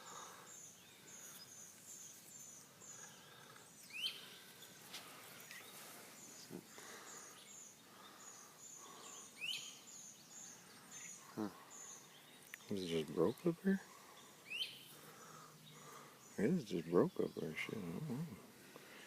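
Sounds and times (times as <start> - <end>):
birdsong chirps: 0.0 - 19.0
rural background noise: 0.0 - 19.0.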